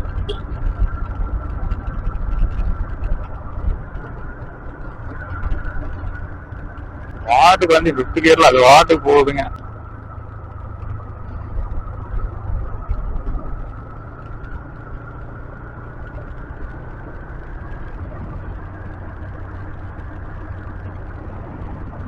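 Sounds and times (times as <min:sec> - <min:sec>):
motorcycle engine running: 0:00.0 - 0:08.2, 0:09.5 - 0:22.0.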